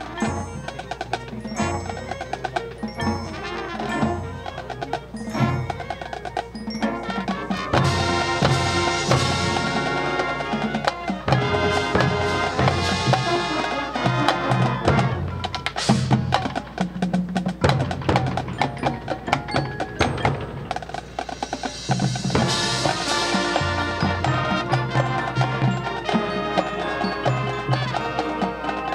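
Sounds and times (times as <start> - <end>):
marching band playing: 0.0 - 28.9
percussion hits: 0.0 - 28.9.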